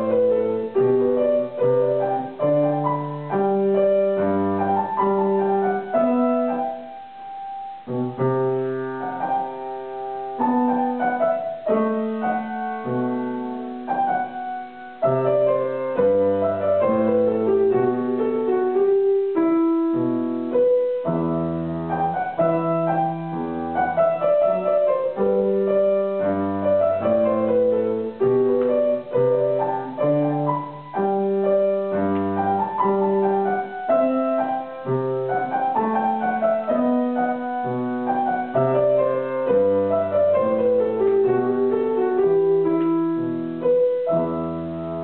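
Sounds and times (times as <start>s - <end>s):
solo grand piano: 0.0s - 45.0s.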